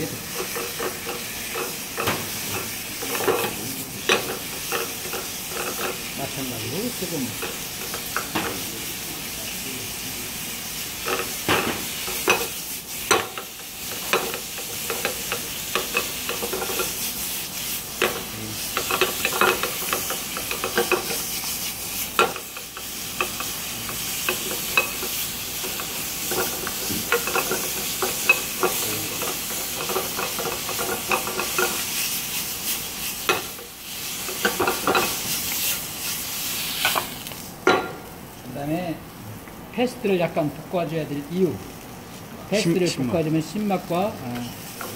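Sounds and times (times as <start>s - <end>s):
meat sizzling in a frying pan: 0.0s - 44.9s.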